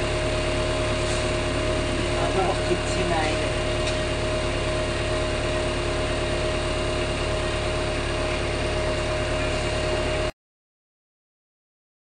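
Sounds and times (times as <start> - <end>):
diesel engine running: 0.0 - 10.3.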